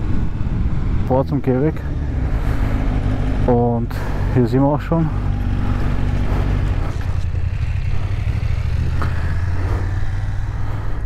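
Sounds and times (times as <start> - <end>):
motorcycle engine running at low speed: 0.0 - 11.0.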